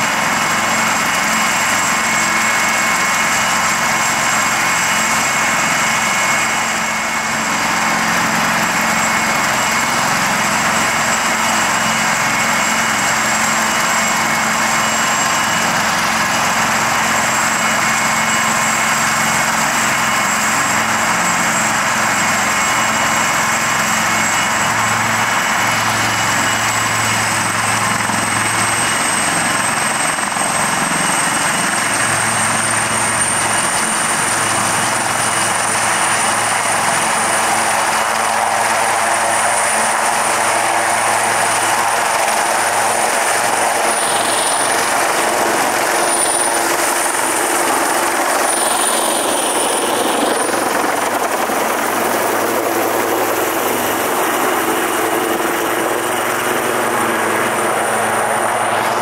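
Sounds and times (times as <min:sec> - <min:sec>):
helicopter passing overhead: 0:00.0 - 0:59.0
helicopter rotor and turbine roar: 0:00.0 - 0:59.0
high turbine whine: 0:00.0 - 0:59.0.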